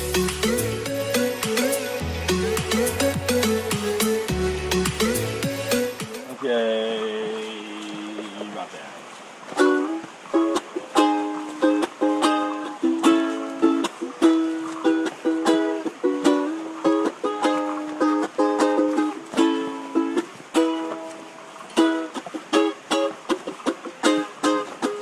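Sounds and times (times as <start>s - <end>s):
strummed ukulele music: 0.0s - 6.4s, 9.4s - 25.0s.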